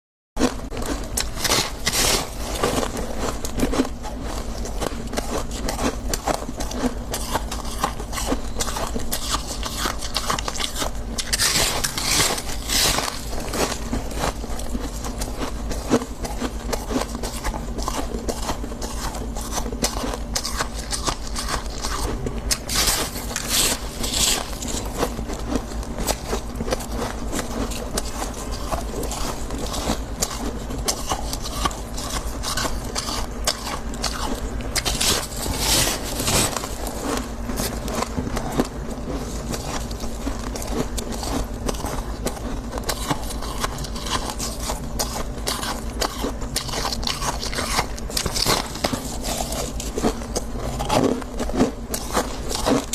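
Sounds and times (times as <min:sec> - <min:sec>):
steady low hum: 0:00.4 - 0:52.9
frost being crunched and scraped: 0:01.2 - 0:05.8, 0:07.1 - 0:15.6, 0:17.0 - 0:51.3.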